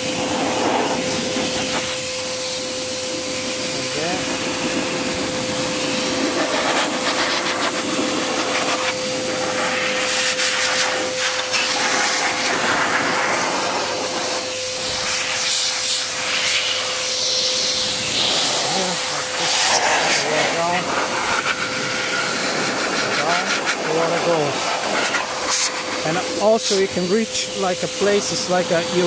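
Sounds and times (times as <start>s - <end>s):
air rushing from hose nozzle: 0.0s - 29.0s
blower motor whine: 0.0s - 29.0s.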